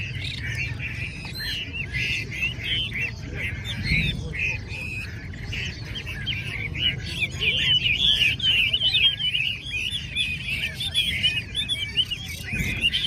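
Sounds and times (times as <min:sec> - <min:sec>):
birds singing in chorus: 0:00.0 - 0:13.0.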